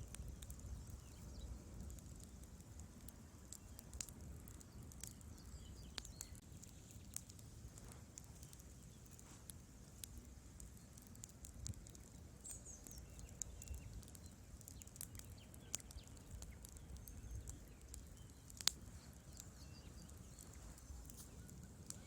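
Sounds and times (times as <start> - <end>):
fire pops: 0.0 - 22.0
wood fire crackling: 0.0 - 22.0.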